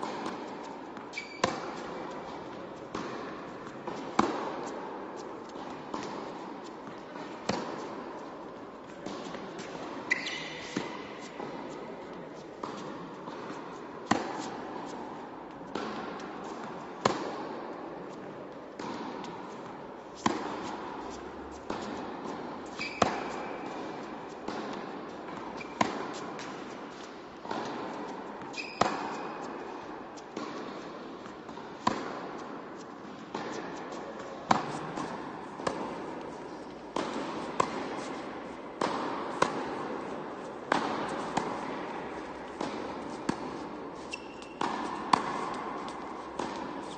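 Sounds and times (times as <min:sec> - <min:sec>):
tennis ball hit by rackets: 0:00.0 - 0:11.7, 0:12.6 - 0:17.6, 0:18.8 - 0:46.9.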